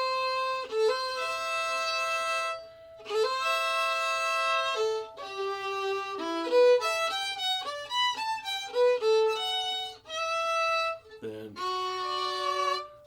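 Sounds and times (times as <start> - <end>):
fiddle playing double stops: 0.0 - 13.0.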